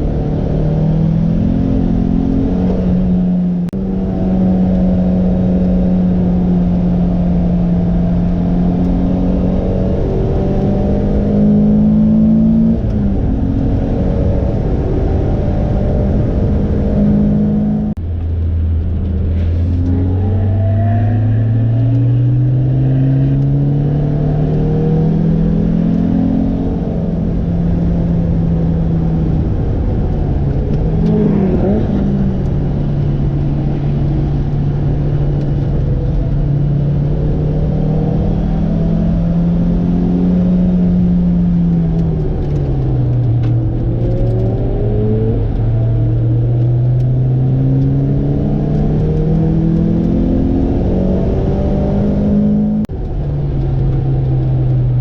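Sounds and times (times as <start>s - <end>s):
sports car engine accelerating: 0.0s - 55.0s.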